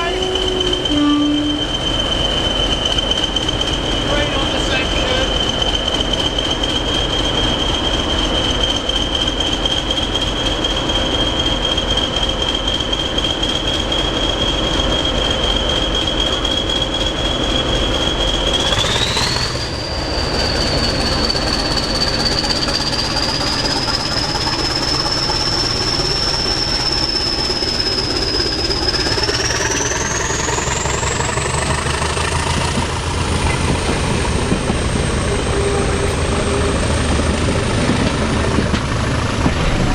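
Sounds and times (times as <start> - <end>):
train rumbling with whine: 0.0 - 39.9.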